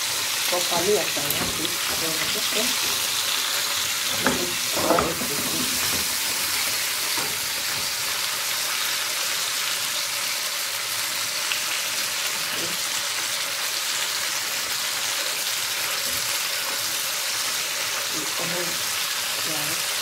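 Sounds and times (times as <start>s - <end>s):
chicken sizzling in a pot: 0.0s - 20.0s.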